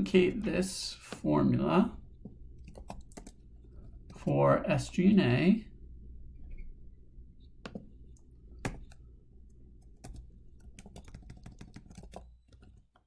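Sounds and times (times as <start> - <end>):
faint low hum: 0.0 - 12.9.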